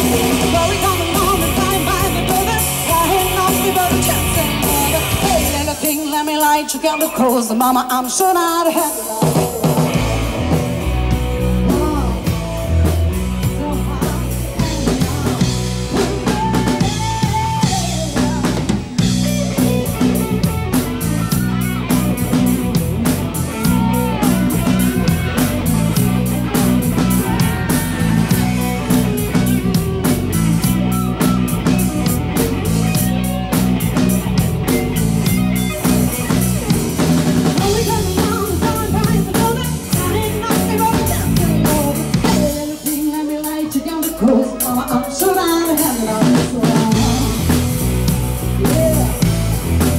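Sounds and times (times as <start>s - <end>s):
bass guitar: 0.0s - 49.9s
drum kit with cymbals: 0.0s - 49.9s
electric guitars: 0.0s - 49.9s.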